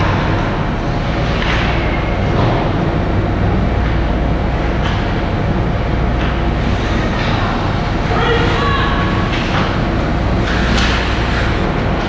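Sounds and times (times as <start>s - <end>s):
arena low rumble: 0.0s - 12.0s.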